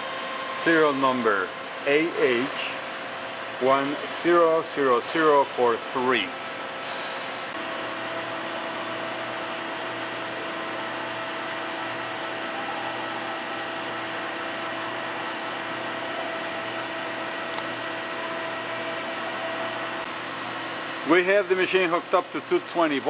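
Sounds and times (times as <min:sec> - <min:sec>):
machine pumps and fans humming: 0:00.0 - 0:23.0.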